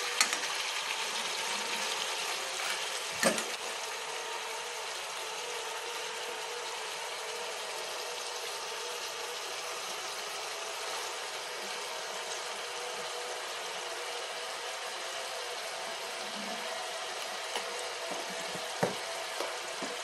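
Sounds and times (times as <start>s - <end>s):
vegetables sizzling in pot: 0.0s - 20.0s.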